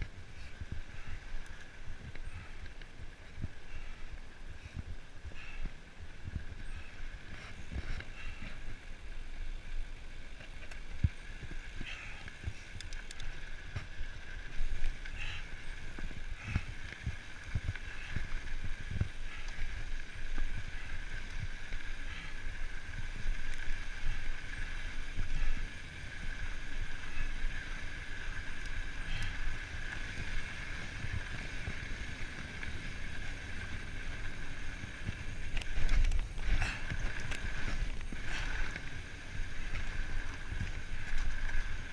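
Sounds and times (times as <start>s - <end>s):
wind on microphone: 0.0s - 41.9s.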